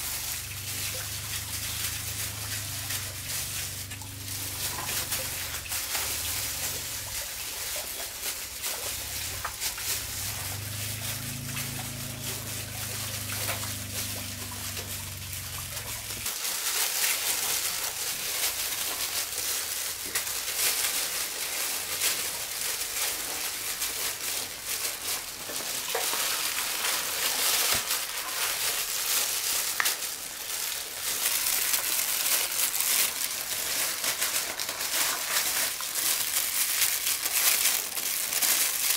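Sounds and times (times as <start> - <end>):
plastic gloves crinkling: 0.0 - 38.9.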